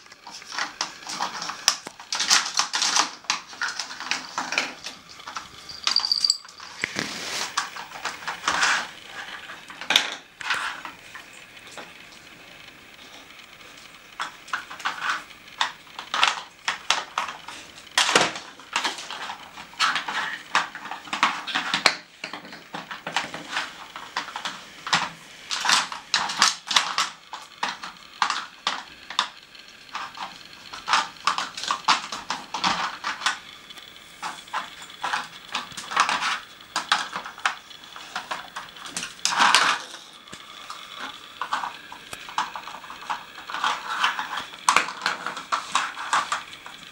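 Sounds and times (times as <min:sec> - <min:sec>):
plastic puzzle pieces clattering: 0:00.2 - 0:11.9, 0:14.2 - 0:33.5, 0:34.2 - 0:46.9.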